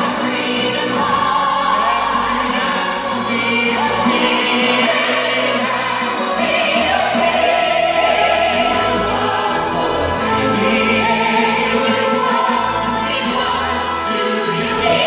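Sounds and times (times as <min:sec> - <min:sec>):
large choir singing: 0:00.0 - 0:15.0.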